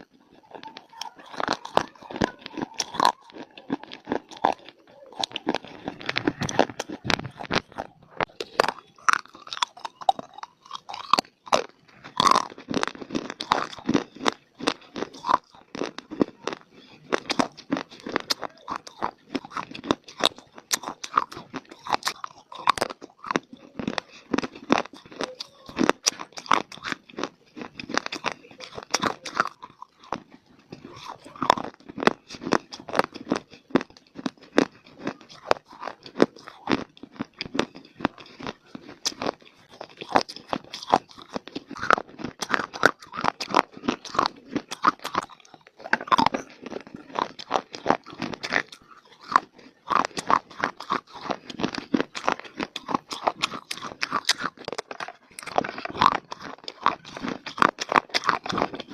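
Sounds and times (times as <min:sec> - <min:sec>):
chewing and crunching clay: 0:00.0 - 0:58.9.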